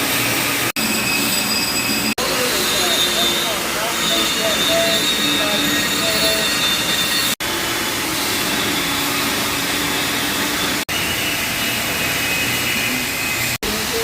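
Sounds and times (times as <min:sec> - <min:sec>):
blacksmith equipment blowing noise: 0:00.0 - 0:14.0.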